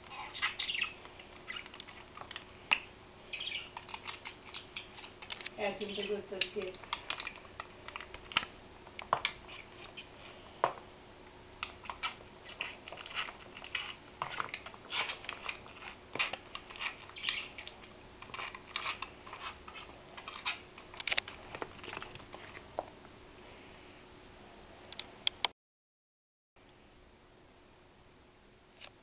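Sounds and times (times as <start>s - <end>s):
faint steady hum: 0.0s - 25.5s, 26.6s - 29.0s.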